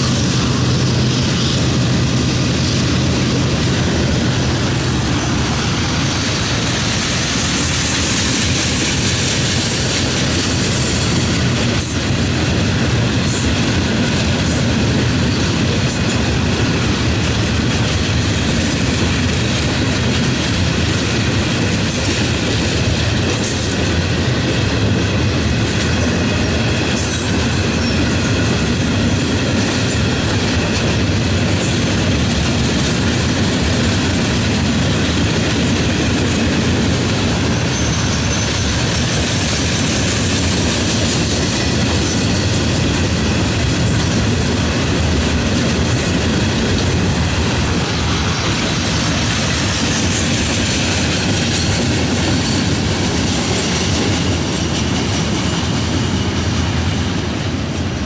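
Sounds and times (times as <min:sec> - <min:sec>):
freight cars rumbling on rails: 0:00.0 - 0:58.0.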